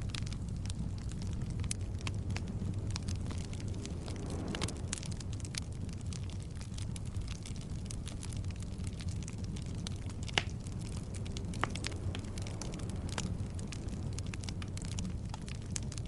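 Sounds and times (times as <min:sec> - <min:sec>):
fire crackling and snapping: 0:00.0 - 0:16.0
flames rumbling: 0:00.0 - 0:16.0
loud fire pops: 0:00.0 - 0:16.0.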